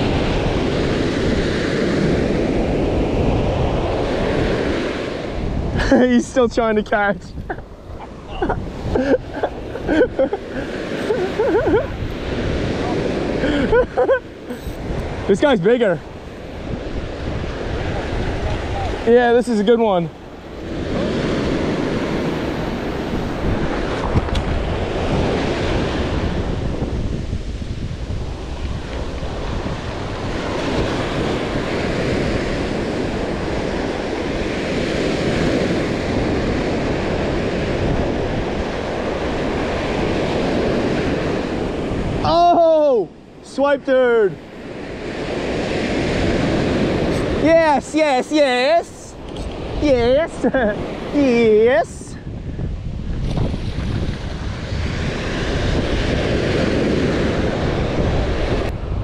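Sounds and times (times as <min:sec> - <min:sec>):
ocean waves breaking: 0:00.0 - 0:59.0
wind buffeting microphone: 0:00.0 - 0:59.0.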